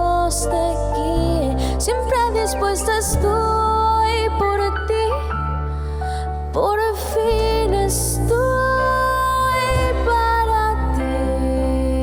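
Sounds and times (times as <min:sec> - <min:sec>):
band accompaniment with bass: 0:00.0 - 0:12.0
woman singing: 0:00.0 - 0:12.0.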